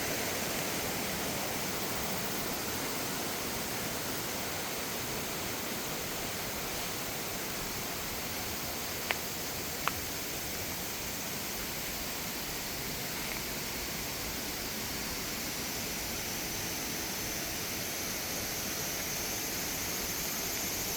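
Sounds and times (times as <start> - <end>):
stream rushing: 0.0 - 20.9.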